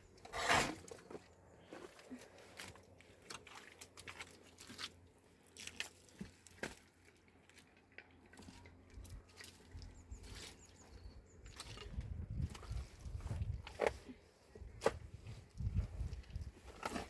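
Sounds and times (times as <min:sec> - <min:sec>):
faint clicks and crunching: 0:00.1 - 0:17.0.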